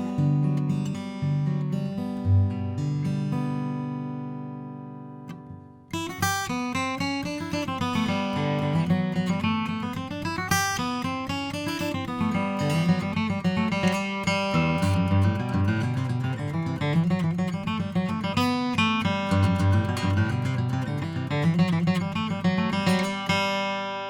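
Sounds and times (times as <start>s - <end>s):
acoustic guitar chord ringing: 0.0s - 24.0s
rhythmic acoustic guitar strumming: 0.0s - 24.0s.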